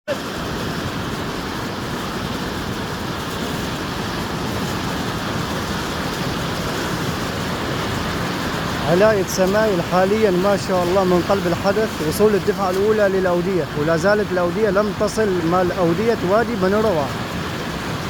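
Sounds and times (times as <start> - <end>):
floodwater rushing: 0.1 - 18.0.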